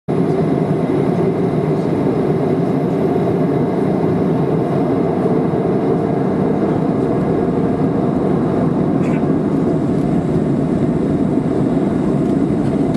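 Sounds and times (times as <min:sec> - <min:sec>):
jet engines rumbling: 0:00.1 - 0:12.9.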